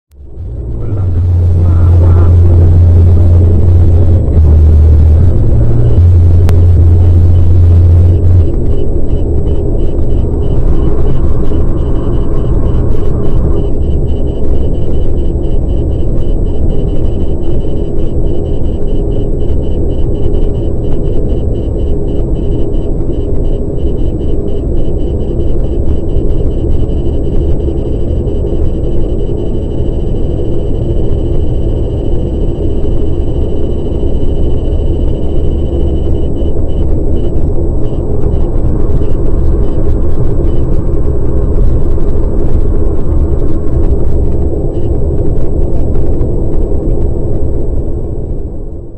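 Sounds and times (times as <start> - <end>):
car cabin road rumble: 0.1 - 48.9
high-pitched radar detector beeps: 0.2 - 48.0.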